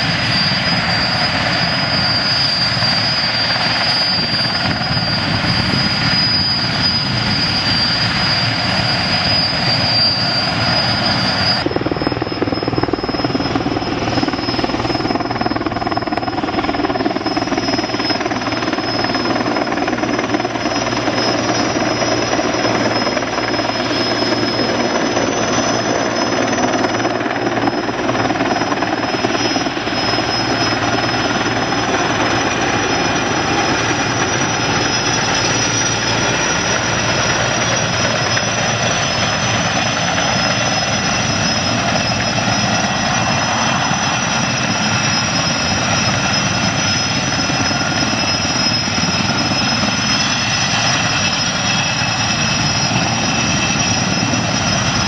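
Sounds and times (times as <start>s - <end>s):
helicopter rotor beating: 0.0s - 55.0s
high turbine whine: 0.0s - 55.0s.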